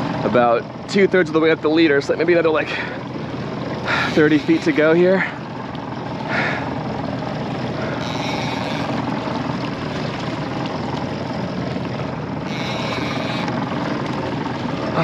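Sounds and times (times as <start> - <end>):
outboard motors running: 0.0 - 15.0
wind and water rushing: 0.0 - 15.0.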